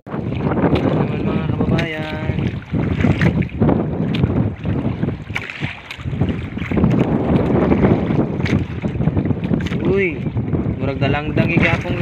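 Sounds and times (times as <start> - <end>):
water lapping against boat hull: 0.0 - 12.0
wind rumble on microphone: 0.0 - 12.0.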